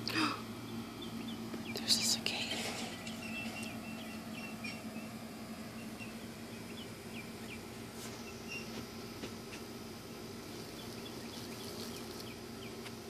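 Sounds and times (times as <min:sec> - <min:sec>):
steady low hum: 0:00.0 - 0:13.0
small bird chirping: 0:00.6 - 0:08.8, 0:10.4 - 0:13.0.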